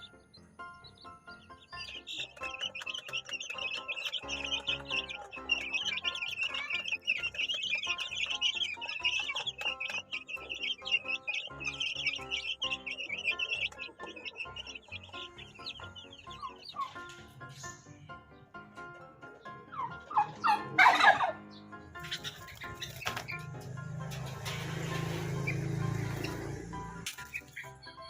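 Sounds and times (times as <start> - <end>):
background music: 0.0 - 28.0
small birds chirping: 0.0 - 28.0.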